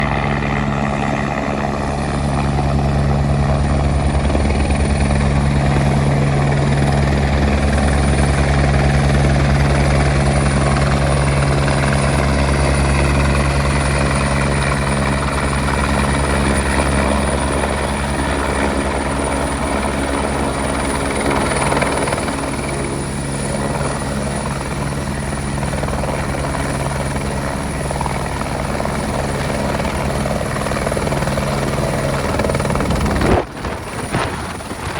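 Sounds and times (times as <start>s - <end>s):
helicopter rotor beat: 0.0s - 34.9s
high turbine whine: 0.0s - 34.9s.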